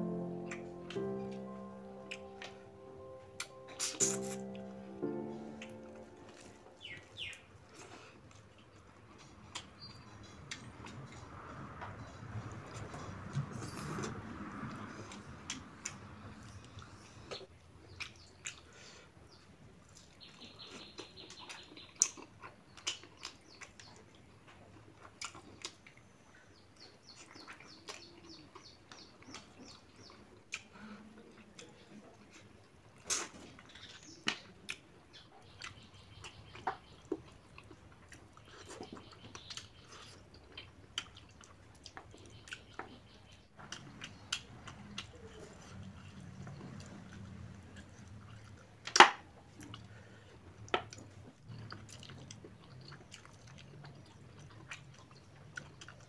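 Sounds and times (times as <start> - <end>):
man chewing and lip-smacking: 6.4 - 11.4, 12.5 - 19.0, 19.8 - 56.0.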